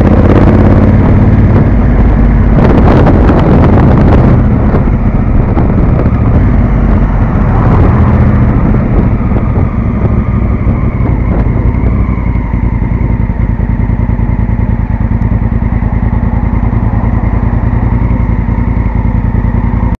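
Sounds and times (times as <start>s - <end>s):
motorcycle engine slowing and idling: 0.0s - 20.0s.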